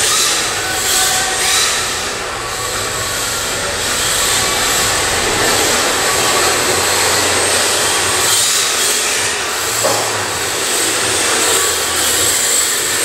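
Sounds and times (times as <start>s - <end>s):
radio-controlled cars whirring: 0.0s - 13.0s.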